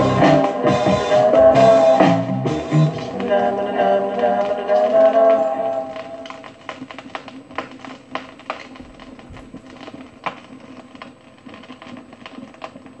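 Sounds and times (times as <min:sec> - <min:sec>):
vinyl crackle and clicks: 0:00.0 - 0:13.0.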